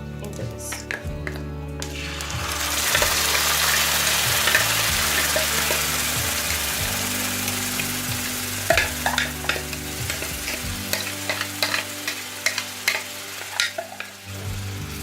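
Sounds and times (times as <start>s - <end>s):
sharp clicks and pops of frying: 0.7s - 15.0s
fish sizzling in a pan: 1.8s - 15.0s.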